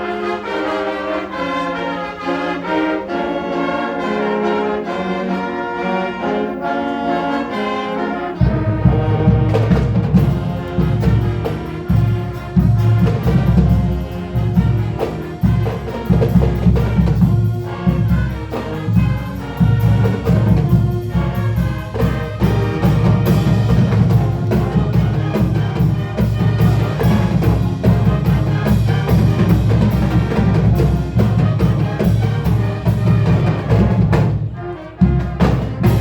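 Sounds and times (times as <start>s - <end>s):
marching band playing: 0.0s - 36.0s.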